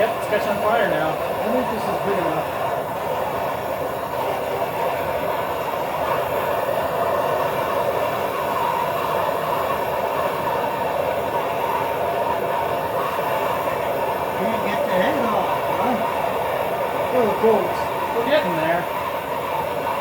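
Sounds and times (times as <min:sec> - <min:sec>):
gas torch flame rushing: 0:00.0 - 0:20.0.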